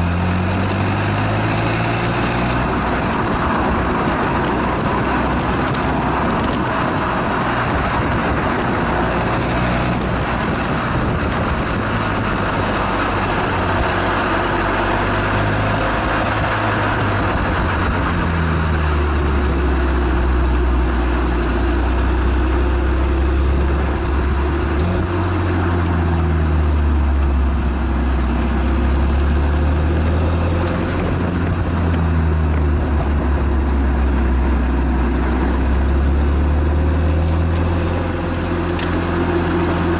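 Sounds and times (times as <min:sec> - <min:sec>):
car exhaust revving: 0:00.0 - 0:39.9
wind and tyre noise: 0:00.0 - 0:39.9.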